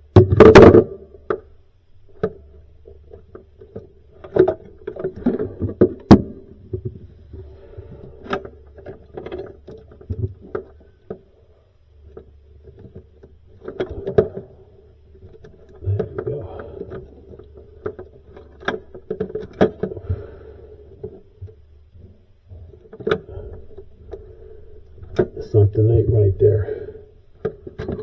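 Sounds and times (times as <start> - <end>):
steady low hum: 0.8 - 28.0.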